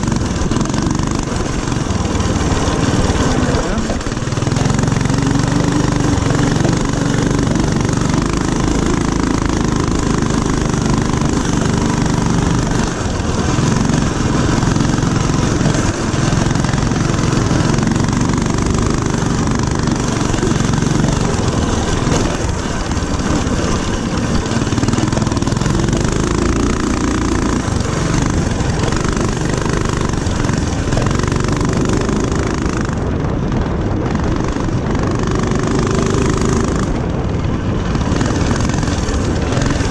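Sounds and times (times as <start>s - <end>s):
mini-bike engine running: 0.0s - 39.9s.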